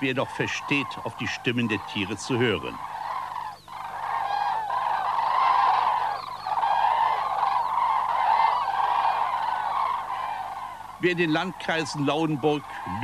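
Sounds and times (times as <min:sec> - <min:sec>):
cranes trumpeting calls: 0:00.0 - 0:13.0.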